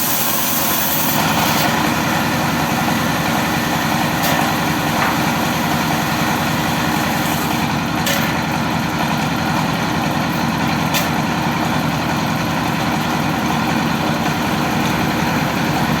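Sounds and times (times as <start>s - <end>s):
sawmill saw machinery running: 0.0s - 16.0s.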